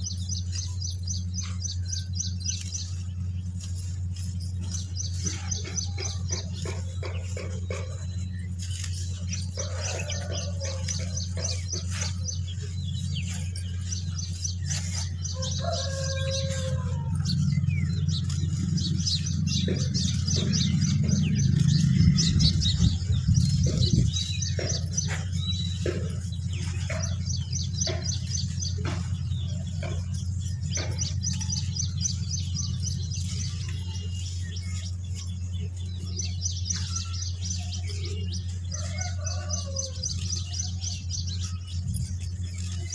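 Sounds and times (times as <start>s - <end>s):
birds chirping: 0.0s - 42.9s
low hum: 0.0s - 42.9s.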